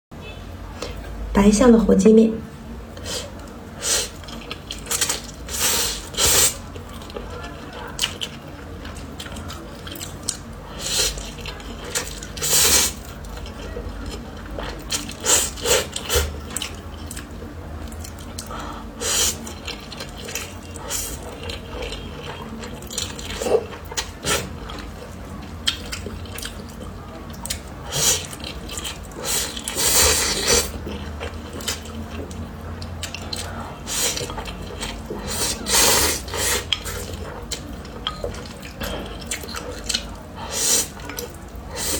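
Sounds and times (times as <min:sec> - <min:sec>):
slurping and chewing noodles: 0:02.9 - 0:41.9.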